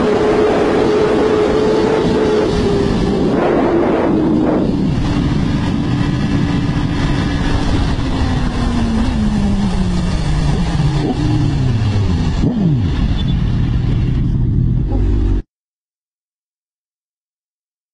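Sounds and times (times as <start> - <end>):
motorcycle engine at high speed: 0.0 - 15.4
wind rush: 0.0 - 15.4.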